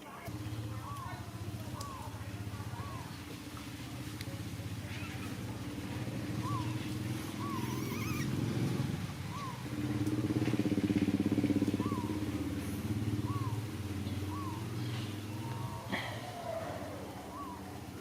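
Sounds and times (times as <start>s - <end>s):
motor engine running: 0.3s - 18.0s.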